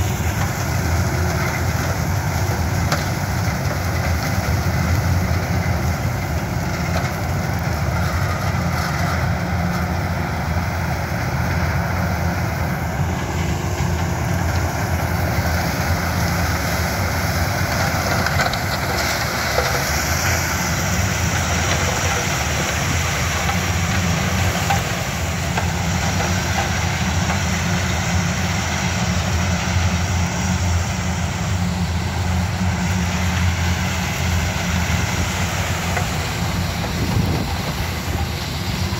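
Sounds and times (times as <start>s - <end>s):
harvester engine running under load: 0.0s - 38.9s.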